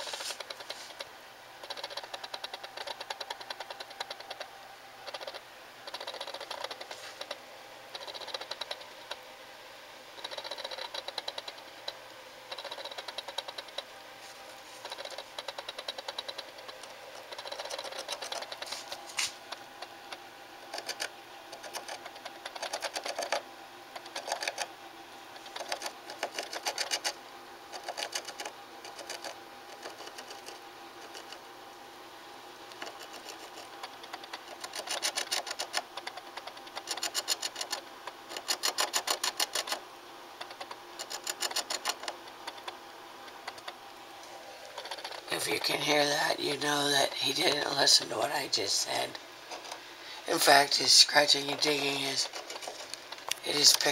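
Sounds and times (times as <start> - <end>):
animal scratching inside a wall: 0.0 - 9.2, 10.1 - 31.5, 32.6 - 46.1, 51.2 - 53.9.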